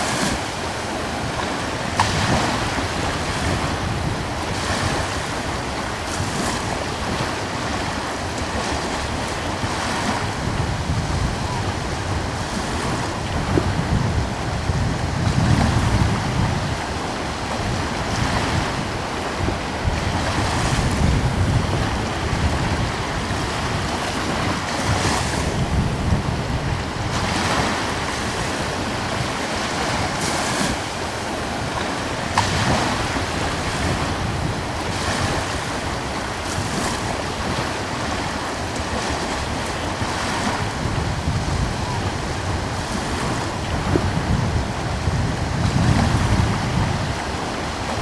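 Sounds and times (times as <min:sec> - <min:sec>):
small ocean waves breaking: 0:00.0 - 0:48.0
wind rumbling on microphone: 0:00.0 - 0:48.0.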